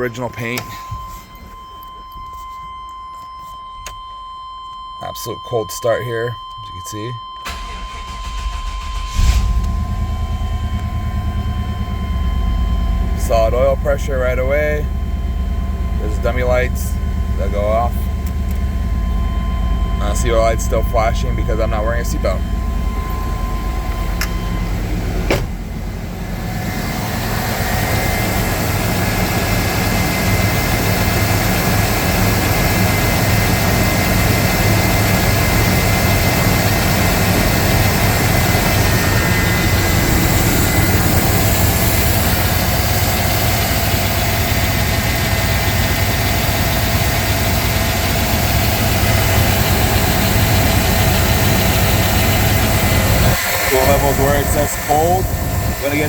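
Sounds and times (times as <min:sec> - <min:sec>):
pickup engine idling: 0:07.4 - 0:56.0.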